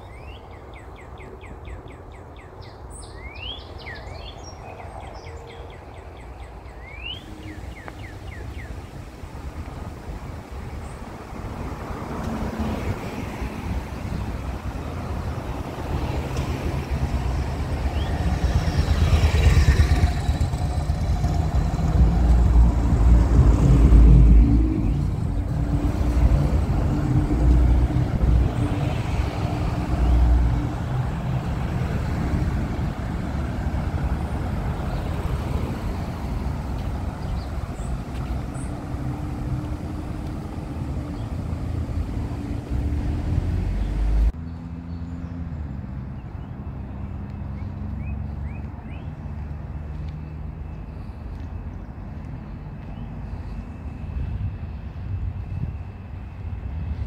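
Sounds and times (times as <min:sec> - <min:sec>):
cars driving past: 0:06.6 - 0:57.0.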